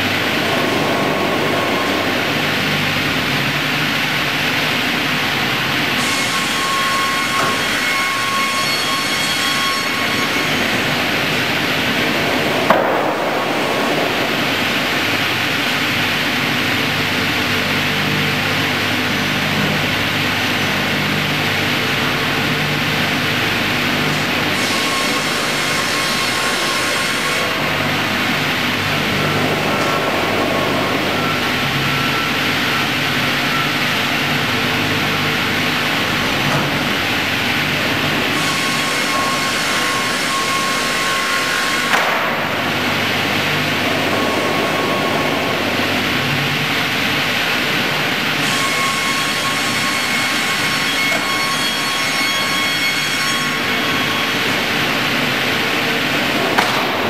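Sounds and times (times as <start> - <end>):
saw blades whining: 0.0 - 17.6, 21.6 - 57.0
sawmill mechanical roar: 0.0 - 57.0.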